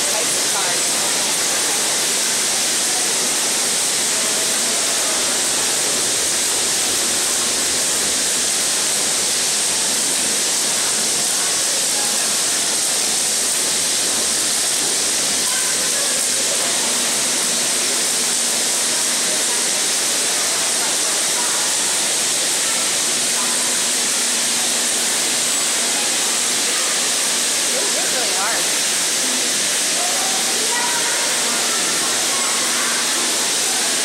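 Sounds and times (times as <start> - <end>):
model trains running: 0.0 - 34.0.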